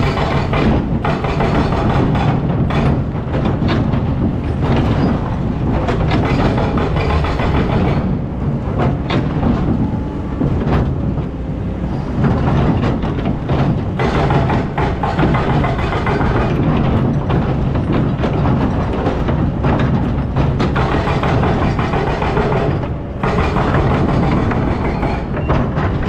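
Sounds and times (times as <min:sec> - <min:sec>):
metallic clanks and knocks: 0:00.0 - 0:11.4, 0:12.1 - 0:26.0
excavator engine rumbling: 0:00.0 - 0:26.0.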